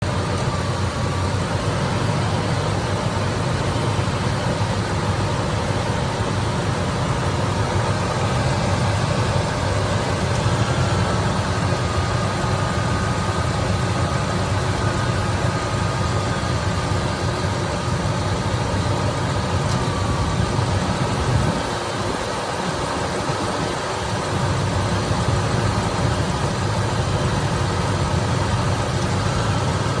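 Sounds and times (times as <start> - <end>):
pickup engine idling: 0.0 - 30.0.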